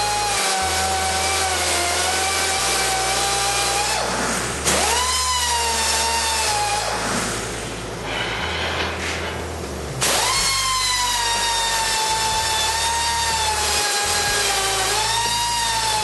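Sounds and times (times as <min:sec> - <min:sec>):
air grinder whine: 0:00.0 - 0:09.4, 0:10.0 - 0:16.0.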